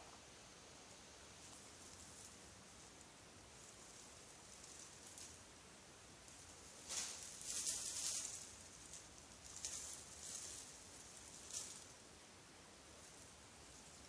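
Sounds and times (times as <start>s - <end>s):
soft rustling and scratching: 0.9s - 12.1s, 12.7s - 14.0s.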